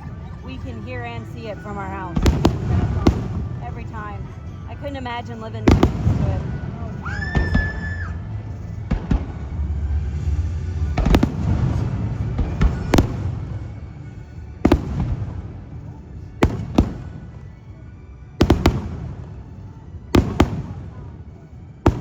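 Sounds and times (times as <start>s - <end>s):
fireworks bursting with bangs: 0.0s - 22.0s
fireworks rumble and crackle: 0.0s - 22.0s.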